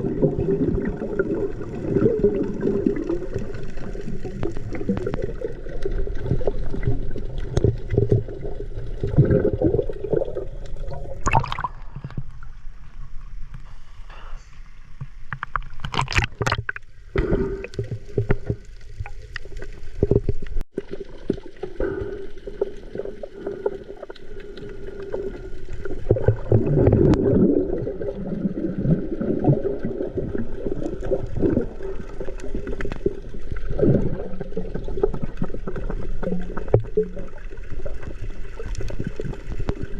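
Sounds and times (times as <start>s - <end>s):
water splashes: 0.0s - 13.9s, 15.0s - 39.9s
water sloshing and gurgling: 0.0s - 39.9s.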